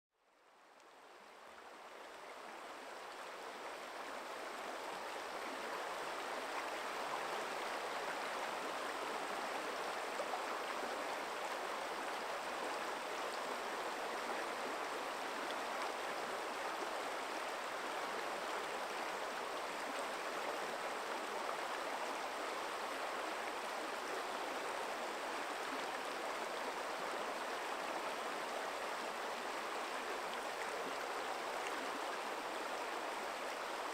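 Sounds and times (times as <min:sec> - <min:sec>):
stream flowing over rocks: 0:00.5 - 0:33.9.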